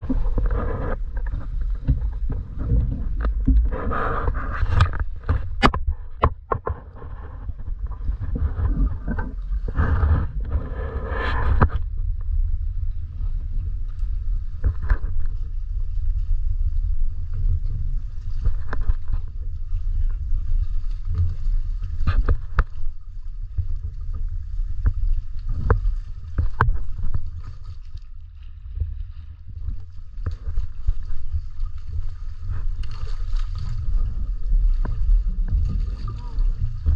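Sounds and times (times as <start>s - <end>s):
steady low rumble: 0.0s - 36.9s
water sloshing and splashing: 0.0s - 36.9s.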